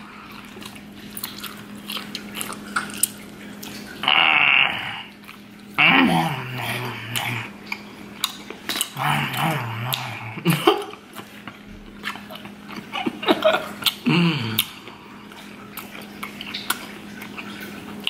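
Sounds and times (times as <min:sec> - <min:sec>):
faint electrical hum: 0:00.0 - 0:18.0
man chewing with mouth clicks: 0:00.0 - 0:18.0.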